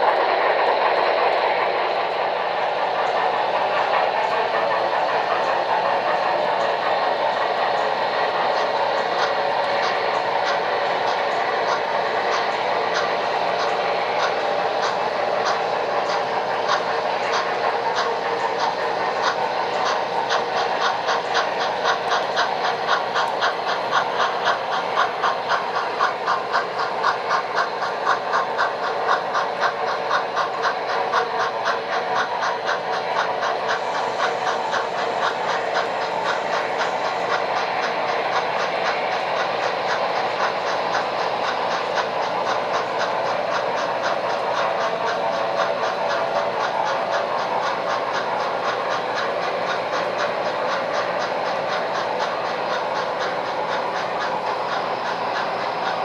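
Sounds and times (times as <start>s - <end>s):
model steam locomotive chuffing: 0.0s - 56.0s
steam hiss: 0.0s - 56.0s.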